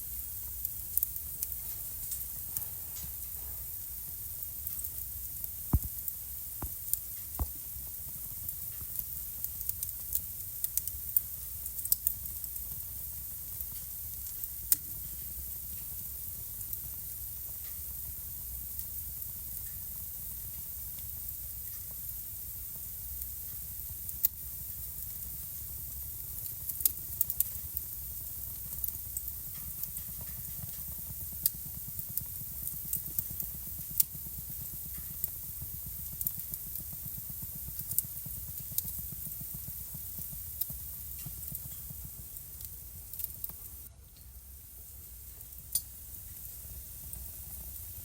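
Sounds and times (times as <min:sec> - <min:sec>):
wood fire crackling: 0:00.0 - 0:48.0
sharp pops of fire: 0:00.1 - 0:44.4, 0:45.3 - 0:48.0.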